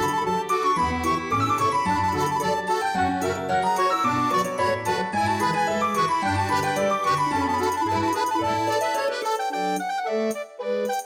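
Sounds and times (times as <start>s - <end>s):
lilting instrumental music: 0.0s - 11.0s.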